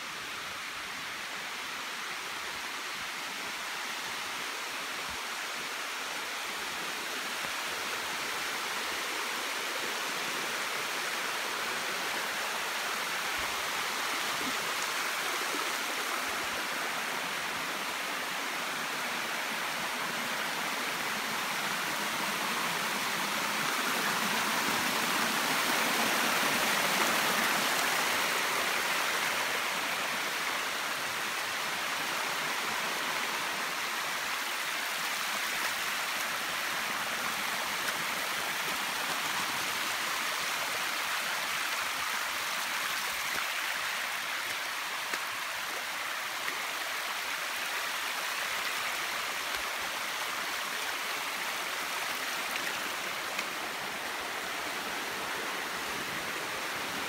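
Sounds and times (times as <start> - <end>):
stream cascading over rocks: 0.0 - 57.0.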